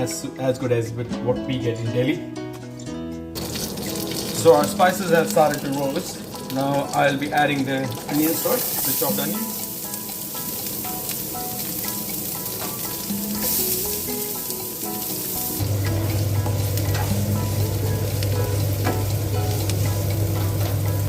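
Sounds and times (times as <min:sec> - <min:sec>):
onions sizzling in oil: 0:03.4 - 0:21.0.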